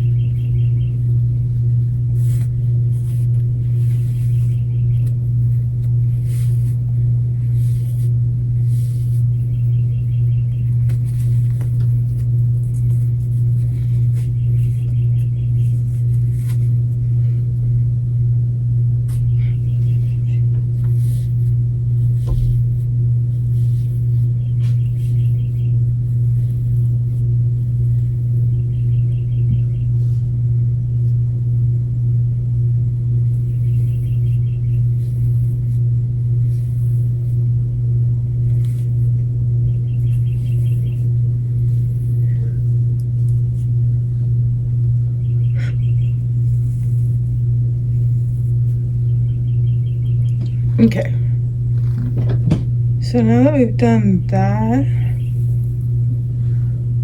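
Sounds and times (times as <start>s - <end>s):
loud low pulsing hum: 0.0s - 57.0s.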